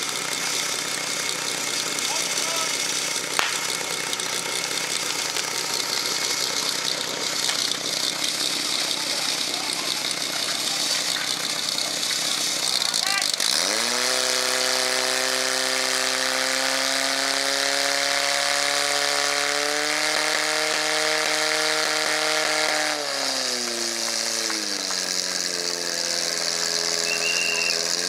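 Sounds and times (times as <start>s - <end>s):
fire pump engine running: 0.0s - 28.0s.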